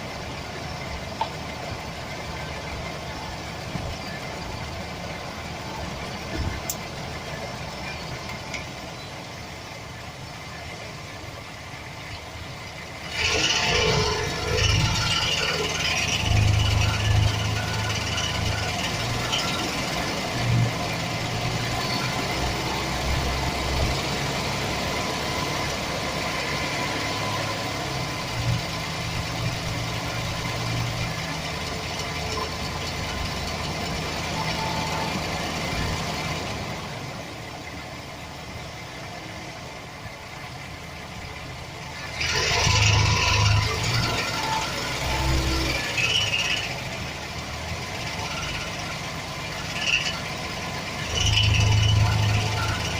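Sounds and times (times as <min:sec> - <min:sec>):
engine rattle: 0:00.0 - 0:52.9
van engine running: 0:00.0 - 0:52.9.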